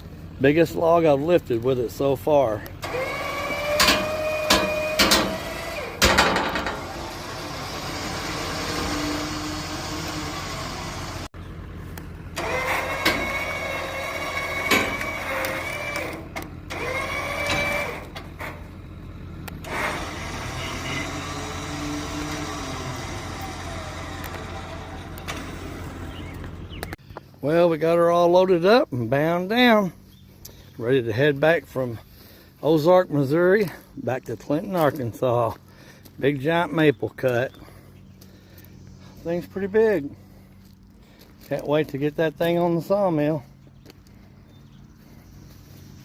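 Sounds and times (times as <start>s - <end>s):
log loader engine drone: 0.0s - 46.0s.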